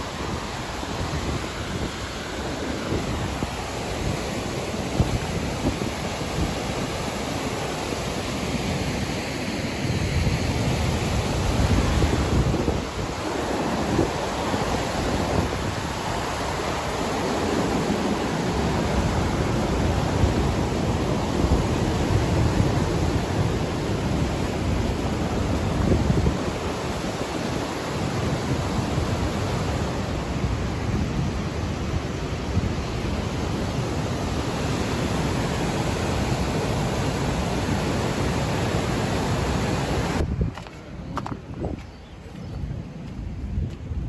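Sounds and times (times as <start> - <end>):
water rushing through floodgates: 0.0 - 41.4.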